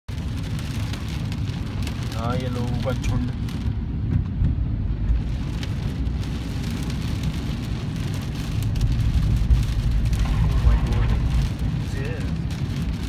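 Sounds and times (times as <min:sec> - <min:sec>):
car rumbling on wet road: 0:00.1 - 0:13.0
rain pattering on car roof: 0:00.1 - 0:13.0.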